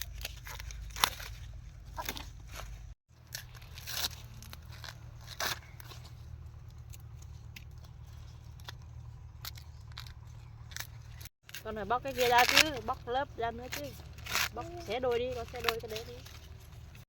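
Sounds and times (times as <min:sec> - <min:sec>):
corn husks crackling and tearing: 0:00.0 - 0:17.0
steady low rumble: 0:00.0 - 0:17.0.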